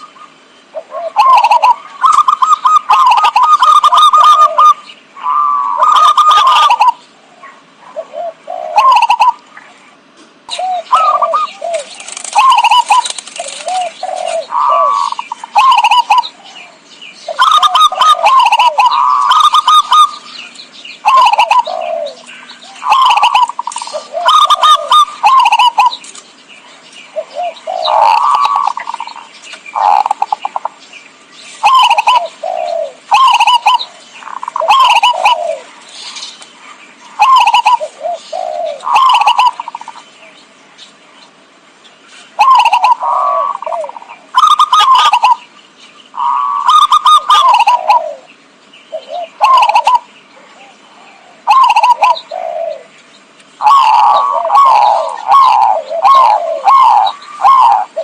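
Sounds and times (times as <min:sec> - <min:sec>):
dove cooing in trilled phrases: 0:00.0 - 0:26.1, 0:27.1 - 0:30.8, 0:31.6 - 0:36.2, 0:37.0 - 0:40.2, 0:42.3 - 0:58.0.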